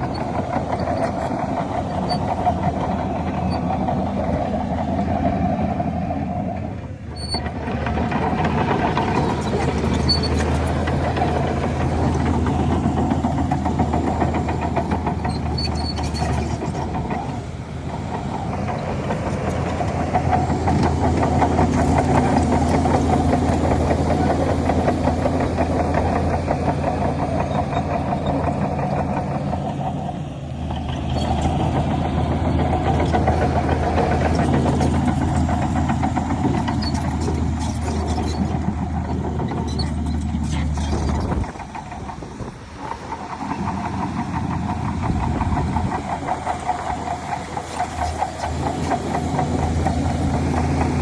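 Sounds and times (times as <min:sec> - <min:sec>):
heavy diesel engines under load: 0:00.0 - 0:51.0.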